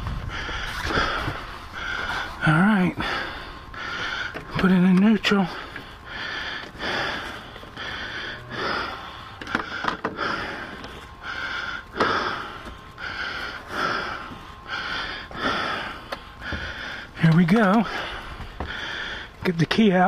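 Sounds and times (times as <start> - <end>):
man breathing heavily: 0.0 - 20.0.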